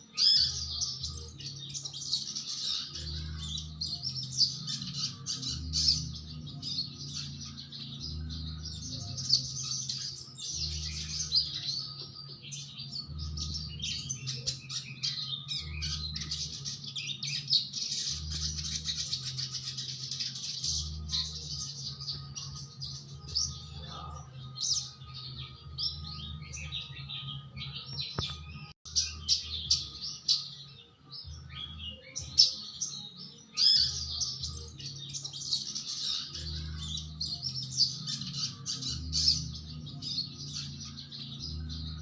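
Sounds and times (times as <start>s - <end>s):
bird singing rapid chirps: 0.0s - 42.0s.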